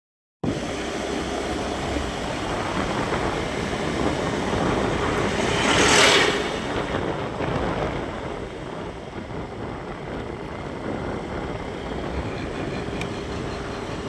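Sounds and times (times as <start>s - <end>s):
vehicle rushing along road: 0.4s - 14.0s.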